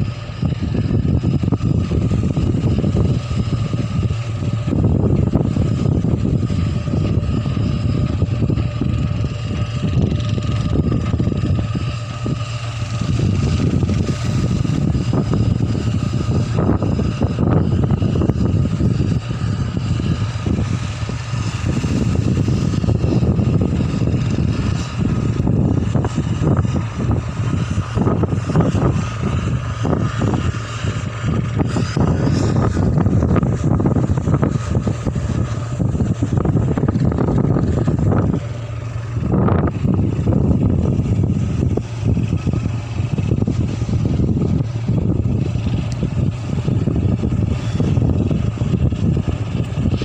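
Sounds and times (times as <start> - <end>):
engines droning: 0.0 - 50.0
faint steady whine: 0.0 - 50.0.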